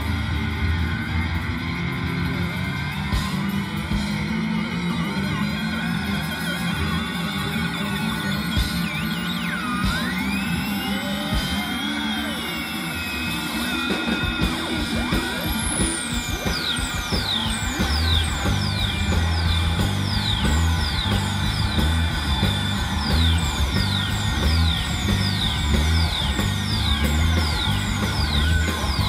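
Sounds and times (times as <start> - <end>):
falling electronic whistles: 0.0 - 29.0
pulsing bass line: 0.0 - 29.0
rock band playing live: 0.0 - 29.0.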